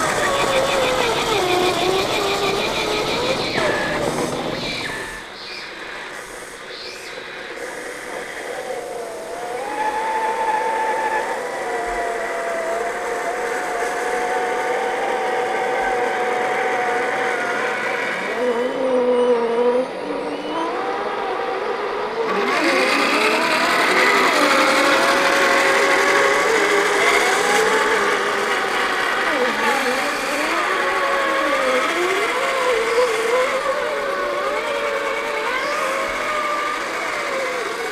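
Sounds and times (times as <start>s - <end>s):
toy truck motors whining: 0.0s - 37.9s.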